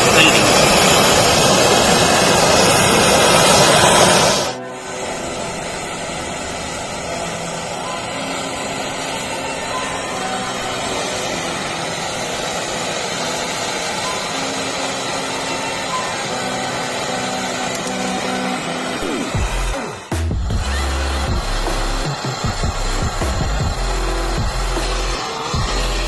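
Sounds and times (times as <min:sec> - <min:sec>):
welding torch flame hissing: 0:00.0 - 0:26.0.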